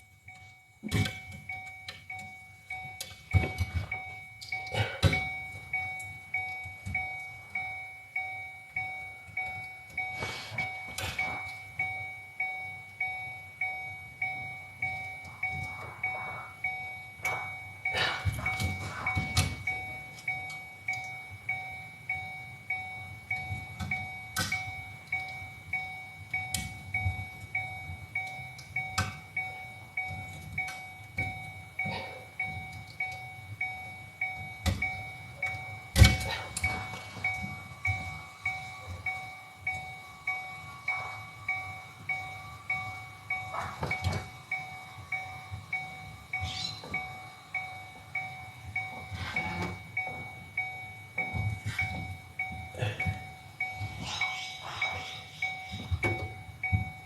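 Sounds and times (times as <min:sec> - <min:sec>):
car warning chime dinging: 0:00.0 - 0:57.0.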